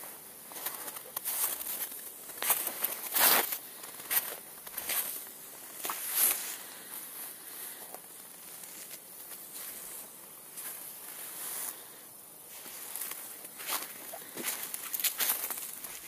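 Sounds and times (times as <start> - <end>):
footsteps crunching in snow: 0.0 - 11.9, 12.5 - 16.0
steady outdoor hiss: 0.0 - 16.0.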